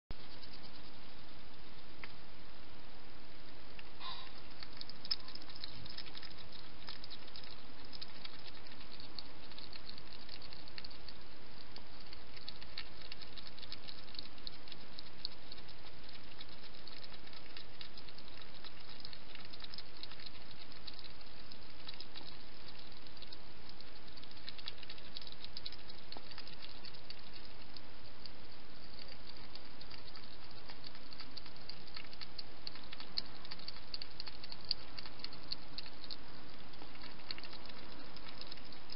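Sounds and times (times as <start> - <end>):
hedgehog eating clicks: 0.1 - 2.3, 3.4 - 38.9
steady background hiss: 0.1 - 38.9.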